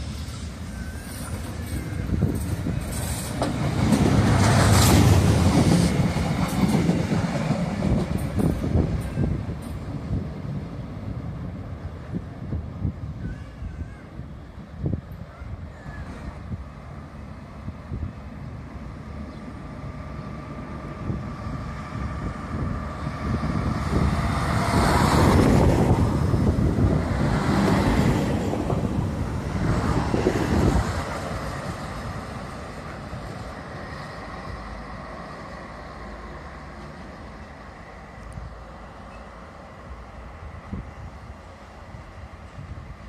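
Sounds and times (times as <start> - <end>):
train wheels on rails: 0.0 - 14.0, 14.9 - 43.0.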